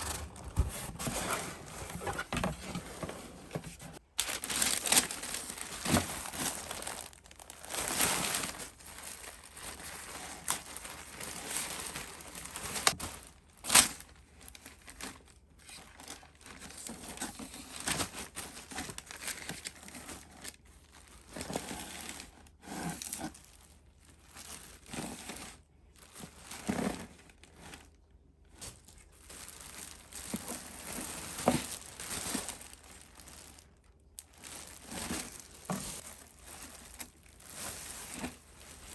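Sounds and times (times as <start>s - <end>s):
paper or plastic crinkling: 0.0s - 38.9s.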